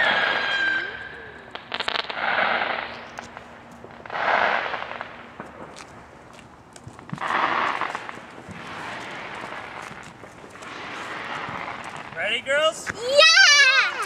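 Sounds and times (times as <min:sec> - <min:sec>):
firework cracks: 0:00.0 - 0:14.0
hissing firework bursts: 0:00.0 - 0:14.0.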